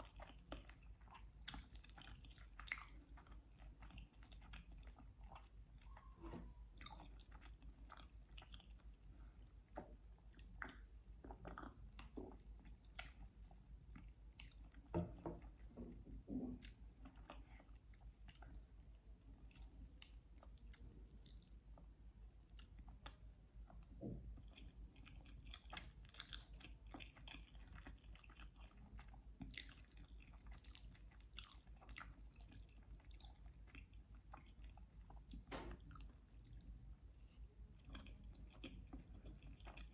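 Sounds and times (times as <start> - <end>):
faint low hum: 0.0 - 39.9
person chewing food: 0.0 - 39.9.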